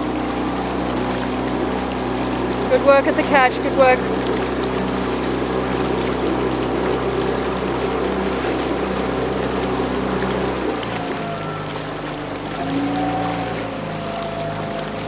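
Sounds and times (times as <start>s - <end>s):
motorboat engine running: 0.0s - 15.0s
water rushing past hull: 0.0s - 15.0s.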